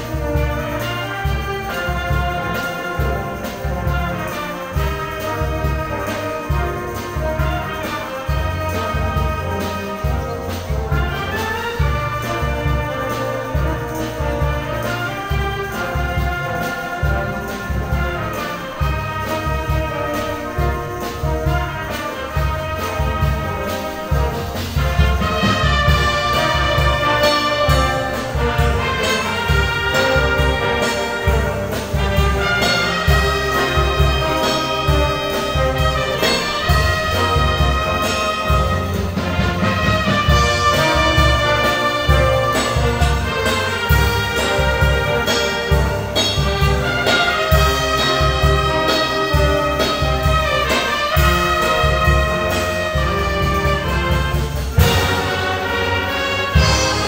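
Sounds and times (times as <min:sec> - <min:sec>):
wind band playing: 0:00.0 - 0:57.0.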